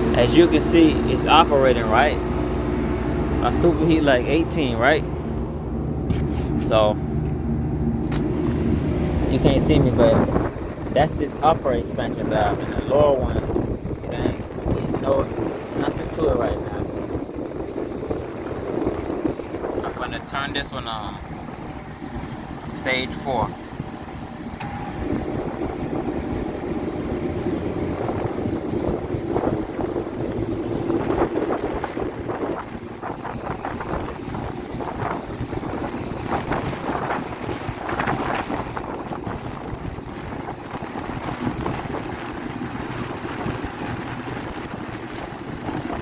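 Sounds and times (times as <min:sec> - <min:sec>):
hvac compressors and fans humming: 0:00.0 - 0:46.0
wind buffeting microphone: 0:00.0 - 0:46.0.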